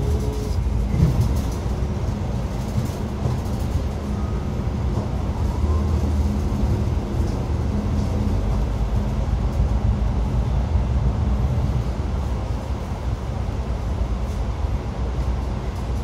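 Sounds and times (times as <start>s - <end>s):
bus interior rumble: 0.0s - 16.0s.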